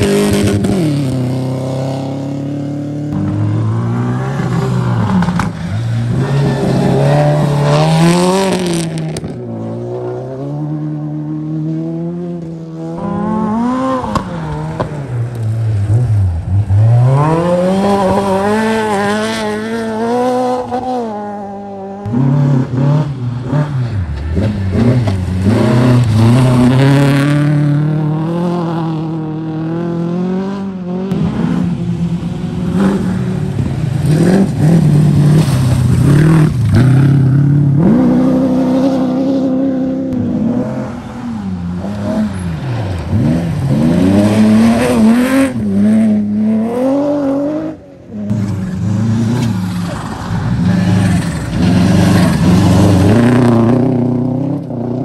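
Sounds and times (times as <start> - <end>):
rally cars passing engines revving: 0.0 - 55.0.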